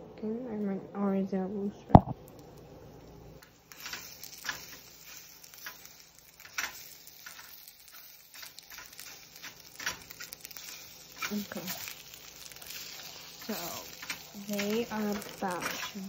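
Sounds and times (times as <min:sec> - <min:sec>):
eggs sizzling in a pan: 0:01.9 - 0:16.0.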